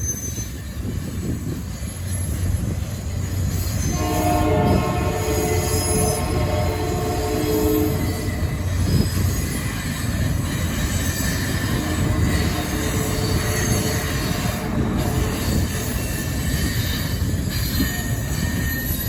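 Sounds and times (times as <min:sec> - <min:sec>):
train rumbling by: 0:00.0 - 0:19.0
train wheels squealing: 0:00.0 - 0:19.0.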